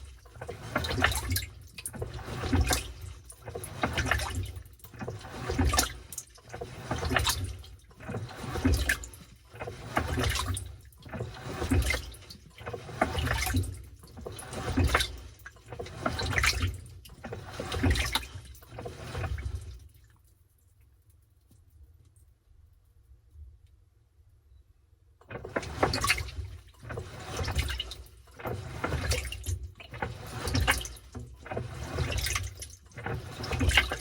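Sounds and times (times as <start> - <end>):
washing machine water sloshing: 0.0 - 20.5, 25.2 - 34.0.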